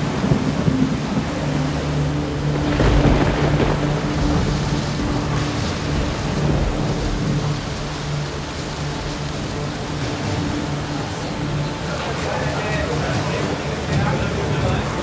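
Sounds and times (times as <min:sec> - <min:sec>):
heavy rain falling: 0:00.0 - 0:15.0
rolling thunder rumble: 0:00.0 - 0:15.0.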